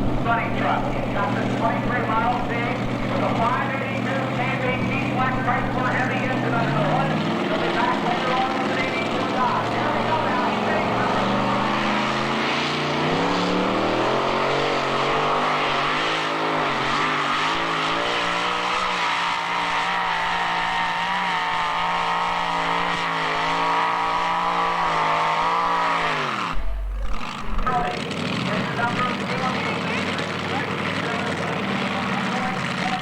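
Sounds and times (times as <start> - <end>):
engine at full throttle: 0.0 - 33.0.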